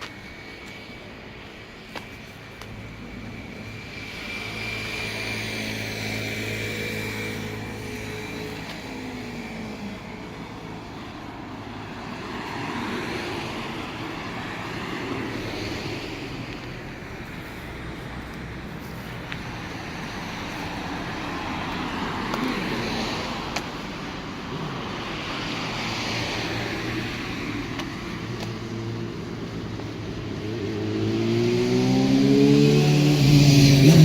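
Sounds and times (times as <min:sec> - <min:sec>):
cars passing: 0:00.0 - 0:34.0.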